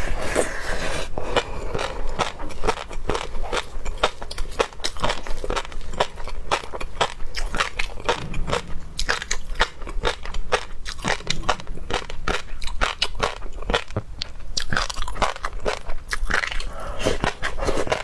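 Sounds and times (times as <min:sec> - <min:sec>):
chewing and biting seafood: 0:01.3 - 0:08.4, 0:09.0 - 0:18.0.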